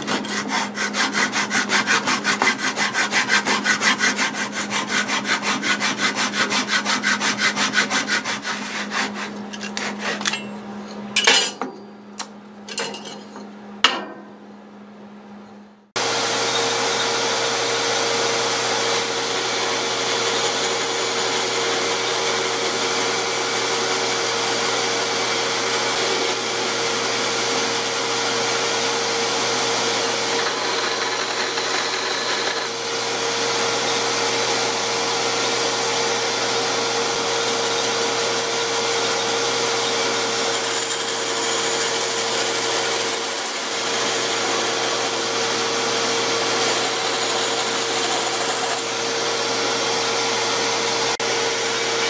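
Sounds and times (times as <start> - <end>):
bandsaw cutting wood: 0.0 - 10.5, 16.0 - 52.0.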